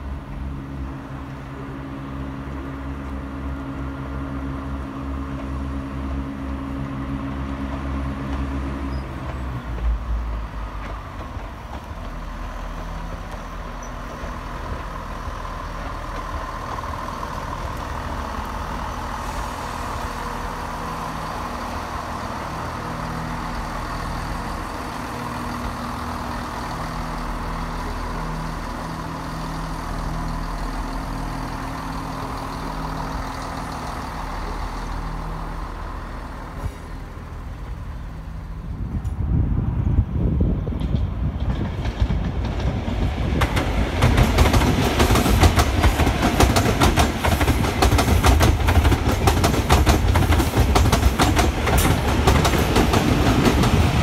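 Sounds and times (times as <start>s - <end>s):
diesel train engines humming: 0.0s - 54.0s
wheel-on-rail noise: 0.0s - 54.0s.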